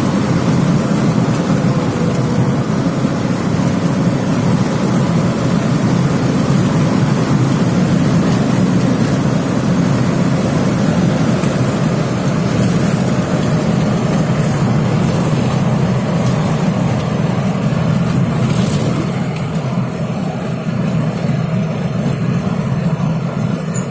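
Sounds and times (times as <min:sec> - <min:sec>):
van engine and road noise: 0:00.0 - 0:23.9.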